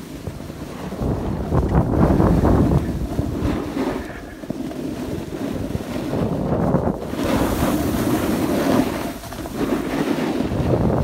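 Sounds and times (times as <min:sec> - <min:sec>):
snowboard sliding over snow: 0:00.0 - 0:11.0
wind rushing over microphone: 0:00.0 - 0:11.0.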